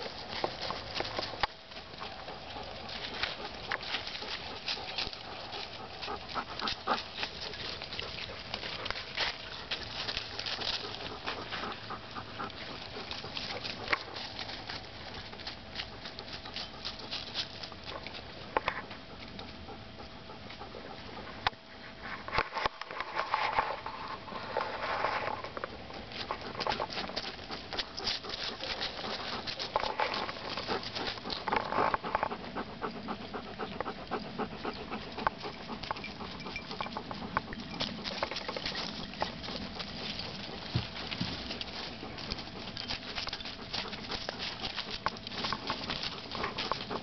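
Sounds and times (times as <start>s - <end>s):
dog panting: 0.0s - 22.3s, 25.6s - 47.0s
dry leaves crackling under paws: 0.0s - 47.0s.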